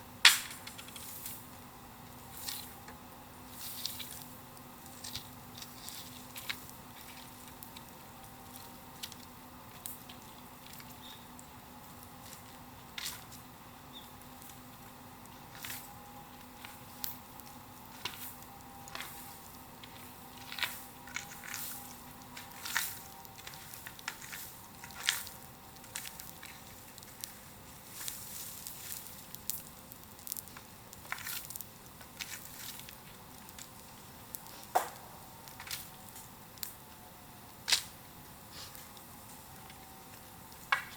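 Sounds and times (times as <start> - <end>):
bonfire crackling: 0.0 - 40.9
faint steady hum: 0.0 - 40.9.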